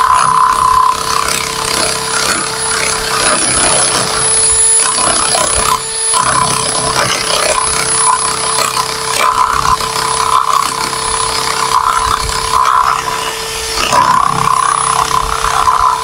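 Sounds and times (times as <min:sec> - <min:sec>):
electric drill boring into wood: 0:00.0 - 0:16.0.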